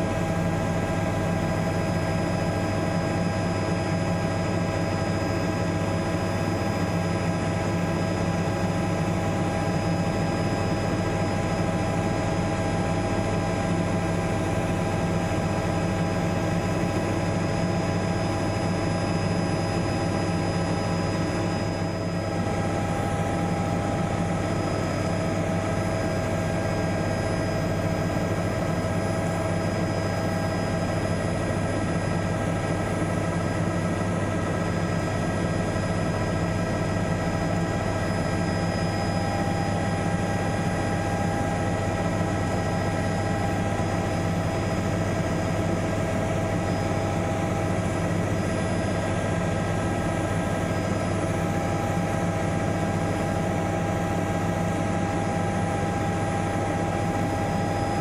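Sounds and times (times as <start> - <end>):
constant high whine: 0.0 - 58.0
helicopter engine and rotor drone: 0.0 - 58.0.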